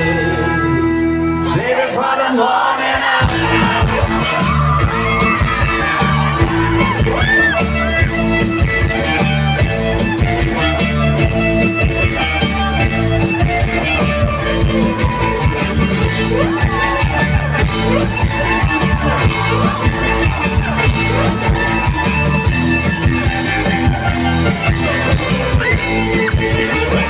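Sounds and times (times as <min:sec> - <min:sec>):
bass: 0:00.0 - 0:27.0
electric guitars: 0:00.0 - 0:27.0
drum kit: 0:03.2 - 0:27.0.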